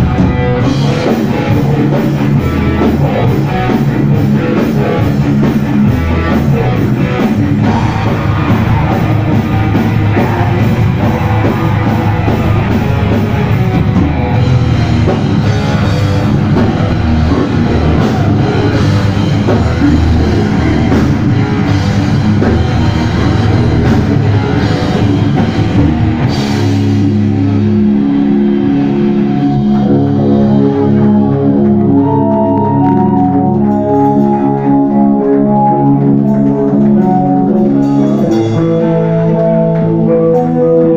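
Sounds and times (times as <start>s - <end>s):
heavy rock band playing live: 0.0s - 40.9s
held guitar chords ringing: 0.0s - 40.9s.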